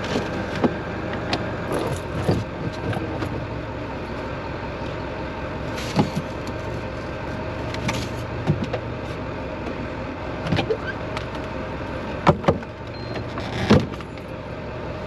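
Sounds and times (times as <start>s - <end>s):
engine and road noise in cab: 0.0s - 15.0s.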